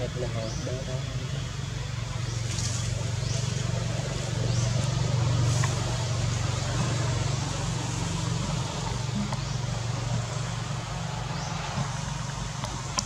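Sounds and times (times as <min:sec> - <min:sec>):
engine droning: 0:00.0 - 0:13.0
outdoor hiss: 0:00.0 - 0:13.0.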